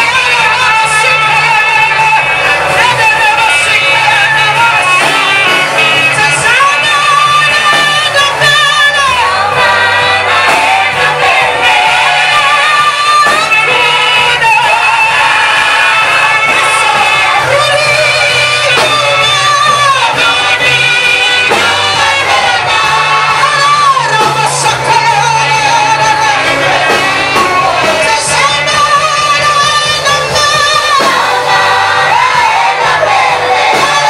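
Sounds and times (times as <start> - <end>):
band with sustained bass: 0.0 - 34.0
gospel singing with vibrato: 0.0 - 34.0.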